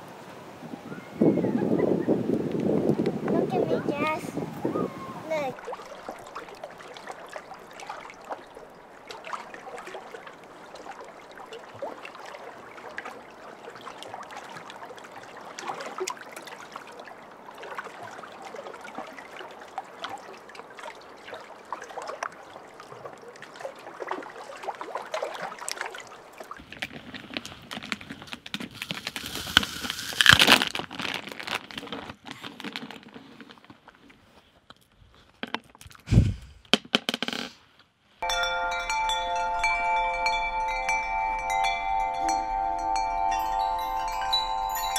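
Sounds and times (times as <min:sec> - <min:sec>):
water lapping and trickling: 0:00.0 - 0:36.1, 0:38.2 - 0:44.9.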